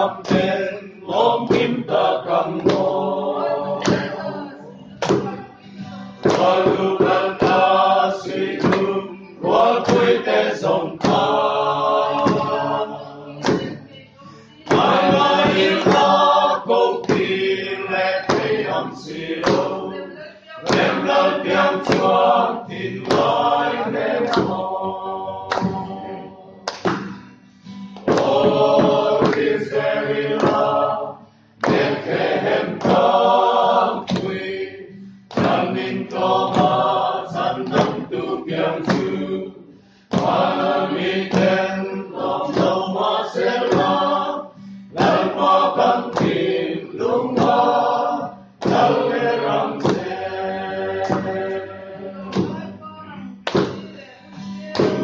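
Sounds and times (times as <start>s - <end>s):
group singing in unison: 0.0s - 52.8s, 53.4s - 55.0s.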